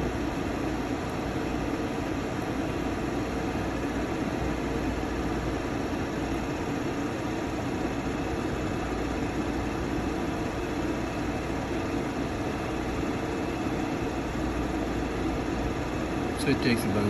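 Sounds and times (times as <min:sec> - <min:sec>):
laser machine running: 0:00.0 - 0:17.0.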